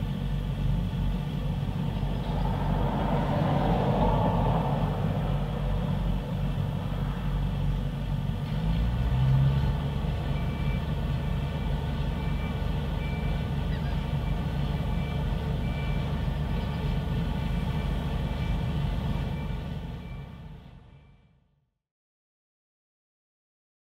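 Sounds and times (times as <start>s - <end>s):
diesel machinery running: 0.0s - 21.4s.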